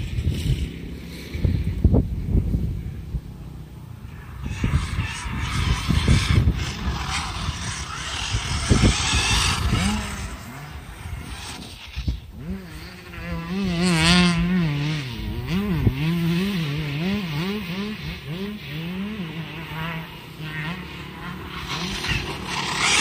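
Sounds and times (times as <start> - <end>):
vehicle motor revving: 0.0 - 23.0.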